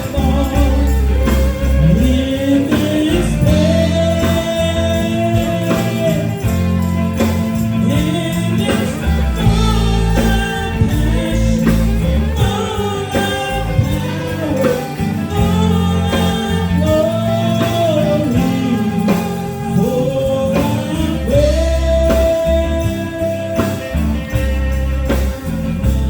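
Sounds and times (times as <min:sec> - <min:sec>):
person singing long notes: 0:00.0 - 0:24.6
gospel band playing: 0:00.0 - 0:26.0
tambourine: 0:00.0 - 0:26.0.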